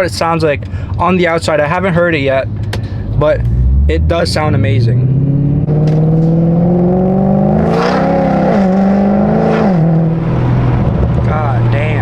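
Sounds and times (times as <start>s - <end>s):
car engine while driving: 0.0s - 12.0s.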